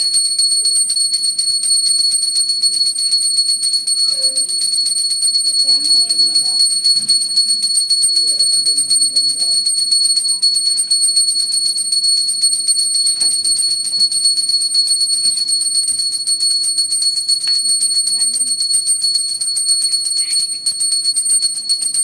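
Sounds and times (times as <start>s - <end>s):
music with high percussion: 0.0s - 22.0s.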